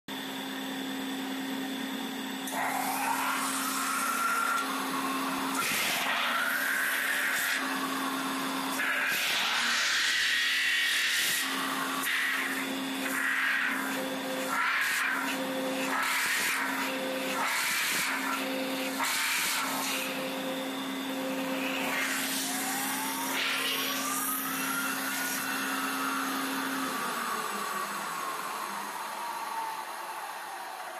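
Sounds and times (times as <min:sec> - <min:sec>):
metal spinning machine humming: 0:00.1 - 0:29.8
hiss with rising whine: 0:02.4 - 0:30.9.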